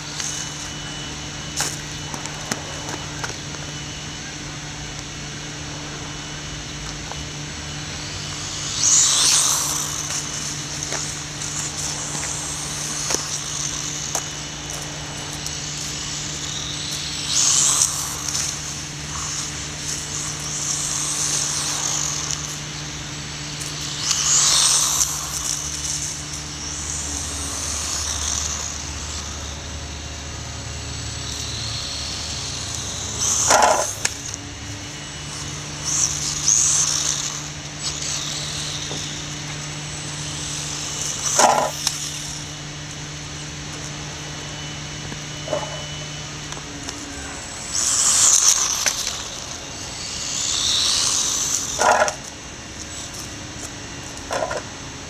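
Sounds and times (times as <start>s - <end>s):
rc truck motor whine: 0.0s - 55.0s.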